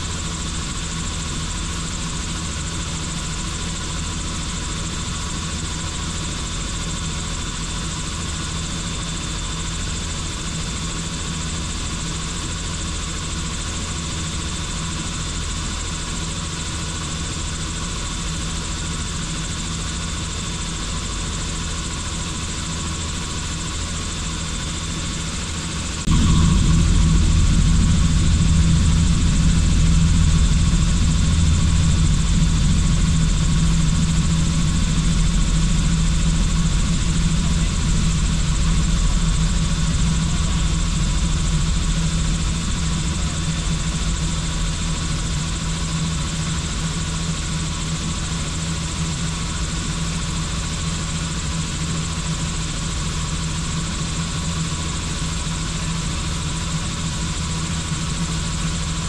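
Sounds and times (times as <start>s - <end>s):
helicopter high whine: 0.0s - 52.8s
helicopter engine and rotor drone: 0.0s - 59.0s.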